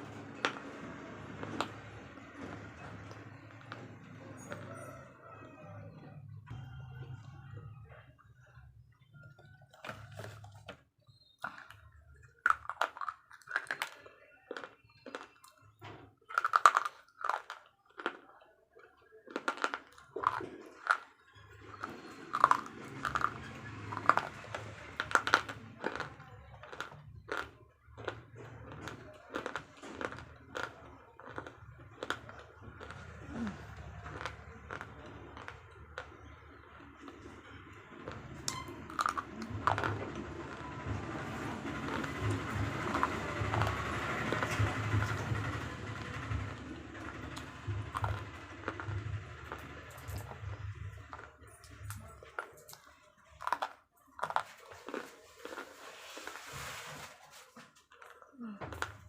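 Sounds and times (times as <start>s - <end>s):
pencils being chewed crunching: 0.0s - 5.4s, 8.4s - 59.0s.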